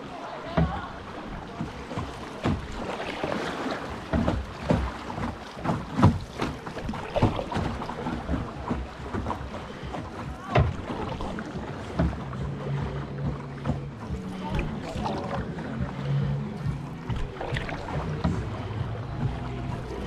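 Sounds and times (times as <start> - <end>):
paddles splashing in water: 0.0 - 20.0
water rushing: 0.0 - 20.0
wind: 0.0 - 20.0
paddle knocks: 0.4 - 20.0.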